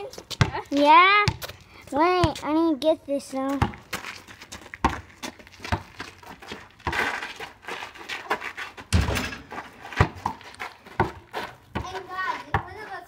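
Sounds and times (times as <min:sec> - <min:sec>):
basketball bouncing on gravel: 0:00.0 - 0:13.0.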